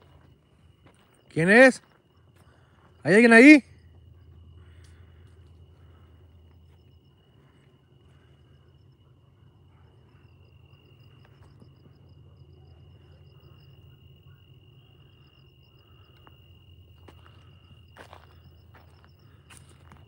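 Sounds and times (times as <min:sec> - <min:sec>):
insects trilling: 0:00.0 - 0:20.0
pulsed insect chirping: 0:00.0 - 0:20.0
low steady hum: 0:03.6 - 0:20.0.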